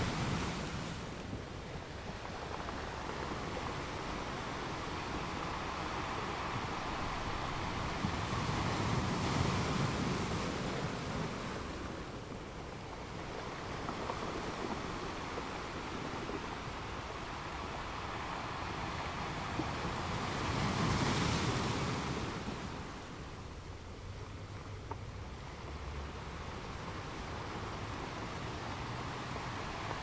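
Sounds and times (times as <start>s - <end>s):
ocean waves washing: 0.0s - 30.0s.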